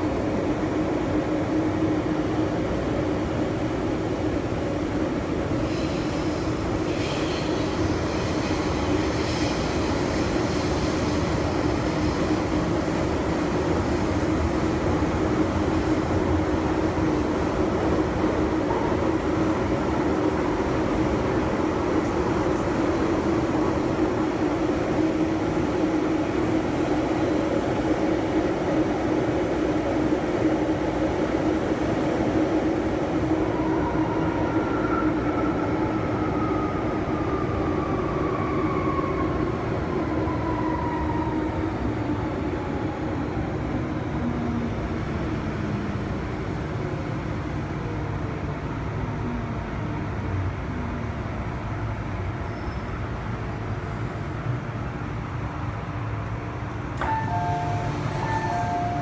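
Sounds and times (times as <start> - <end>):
subway train rumble and rail noise: 0.0 - 59.0.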